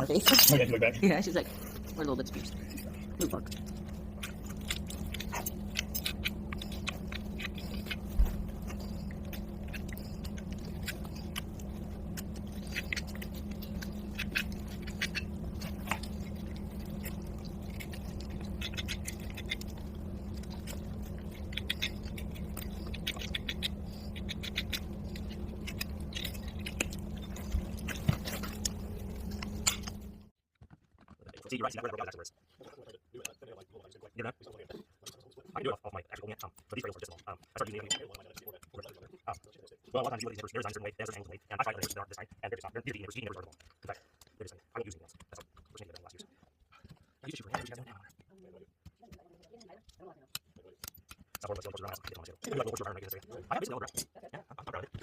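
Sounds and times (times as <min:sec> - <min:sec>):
steady low hum: 0:00.0 - 0:30.4, 0:31.3 - 0:55.0.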